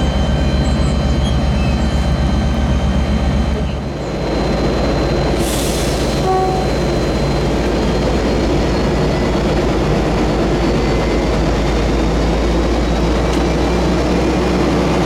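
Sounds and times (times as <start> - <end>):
diesel train engine rumble: 0.0 - 15.0.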